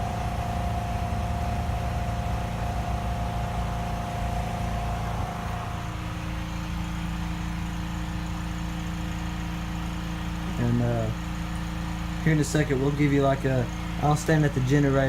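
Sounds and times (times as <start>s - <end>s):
generator engine running: 0.0s - 15.0s
high whine: 0.0s - 15.0s.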